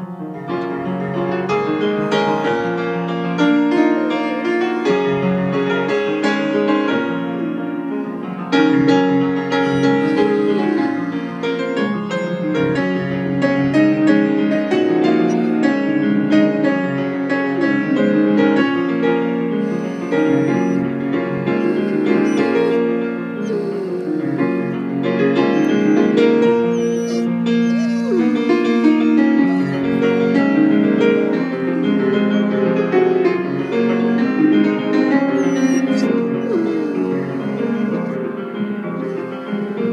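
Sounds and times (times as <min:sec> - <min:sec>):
piano slow chords: 0:00.0 - 0:39.9
dog howling: 0:01.1 - 0:39.9.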